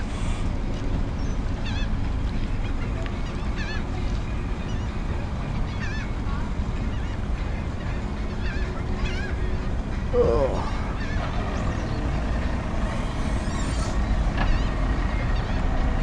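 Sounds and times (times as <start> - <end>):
birds high calls: 0.0 - 16.0
steady low rumble: 0.0 - 16.0.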